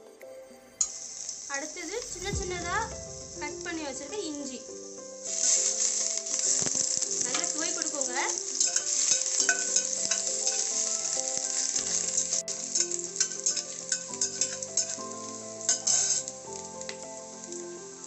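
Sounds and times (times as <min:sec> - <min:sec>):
soft background music: 0:00.0 - 0:18.0
spices sizzling in hot ghee: 0:00.8 - 0:18.0.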